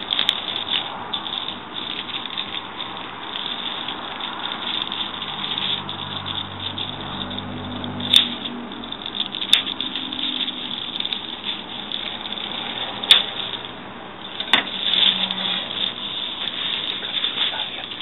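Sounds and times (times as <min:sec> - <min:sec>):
packaging rustling: 0:00.0 - 0:18.0.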